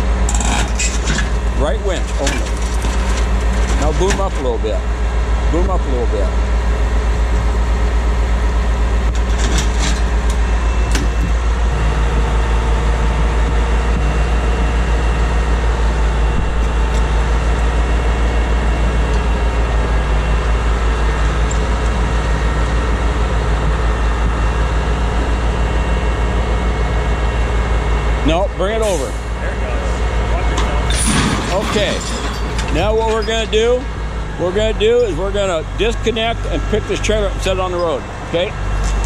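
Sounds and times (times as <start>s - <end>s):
diesel engine throbbing: 0.0s - 39.0s.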